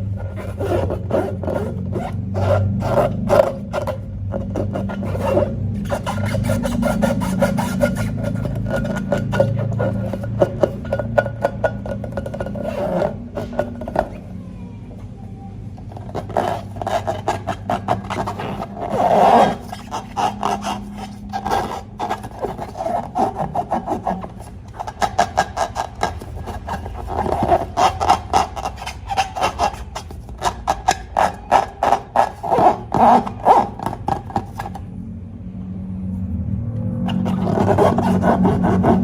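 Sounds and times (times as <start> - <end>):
rapid rubbing and scraping: 0.0 - 14.6, 15.6 - 34.9, 36.8 - 39.0.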